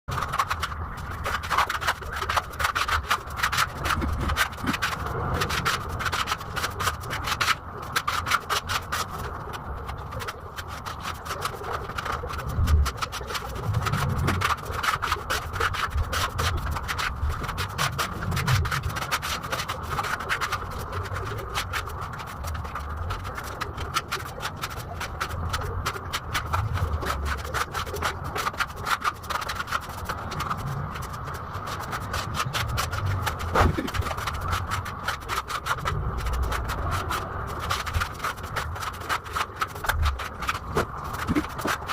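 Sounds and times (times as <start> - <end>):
putty knife scraping a wall: 0.1 - 41.9.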